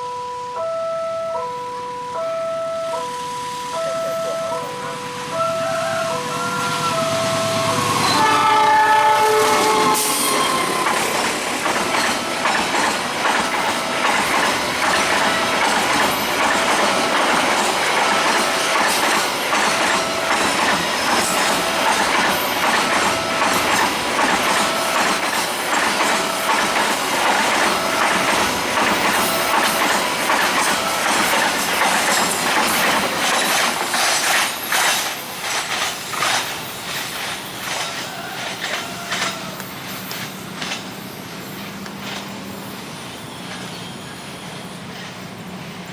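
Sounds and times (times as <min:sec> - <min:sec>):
crossing warning bell ringing: 0:00.0 - 0:45.6
train wheels clattering: 0:05.6 - 0:45.9.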